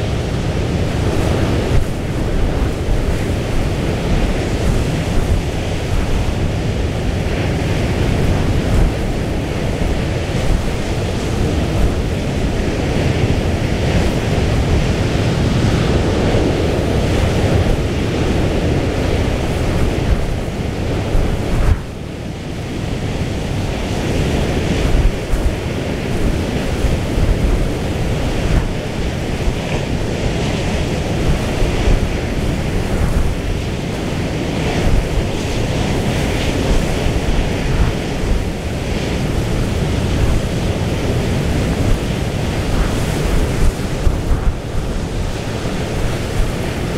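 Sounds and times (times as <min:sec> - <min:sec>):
rough sea rushing: 0:00.0 - 0:46.9
wind buffeting microphone: 0:00.0 - 0:46.9.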